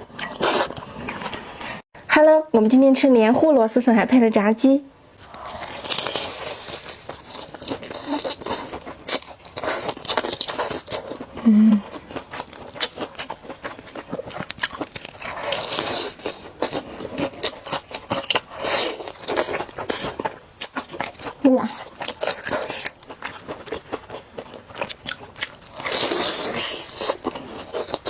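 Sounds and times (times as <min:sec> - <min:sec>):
crunchy chewing: 0:05.2 - 0:28.0.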